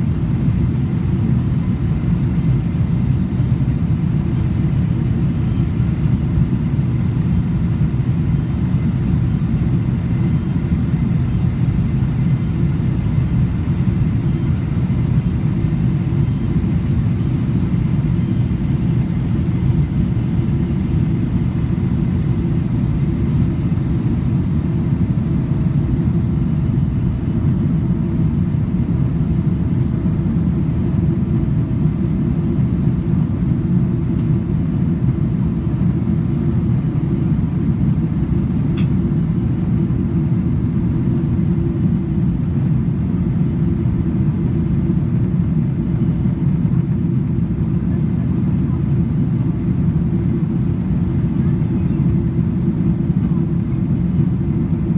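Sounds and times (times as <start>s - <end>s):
jet airliner rumbling: 0.0s - 54.9s.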